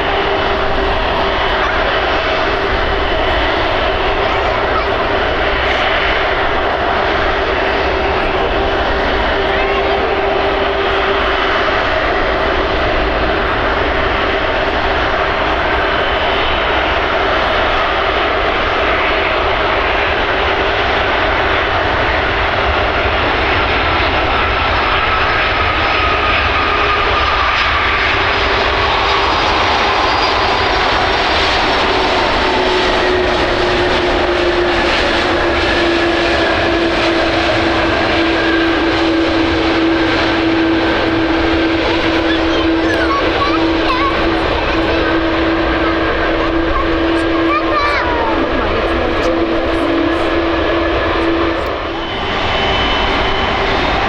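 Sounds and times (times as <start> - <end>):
jet flying past: 0.0 - 54.0.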